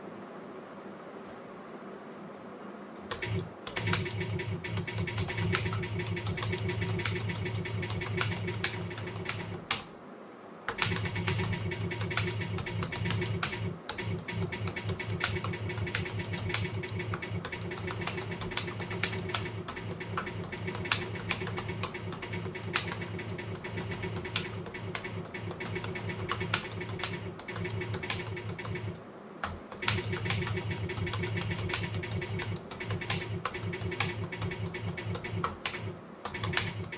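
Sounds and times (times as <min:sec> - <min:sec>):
fast typing on keyboard: 0:03.1 - 0:09.9, 0:10.7 - 0:36.9.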